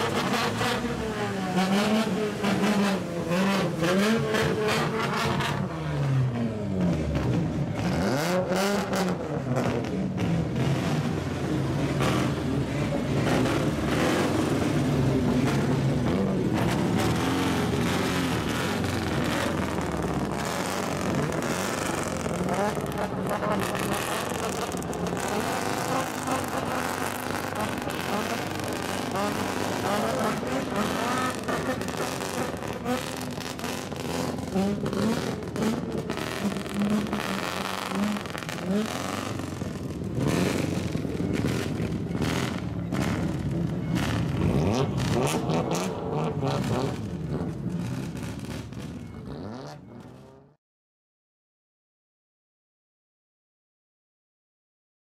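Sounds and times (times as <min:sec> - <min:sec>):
loud car engines revving: 0:00.0 - 0:50.5.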